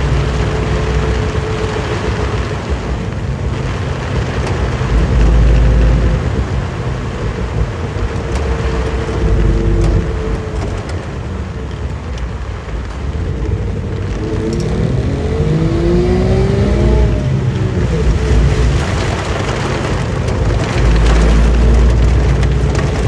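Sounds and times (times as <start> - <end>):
car engine running: 0.0 - 23.0
heavy rain: 0.0 - 23.0
road noise: 0.0 - 23.0.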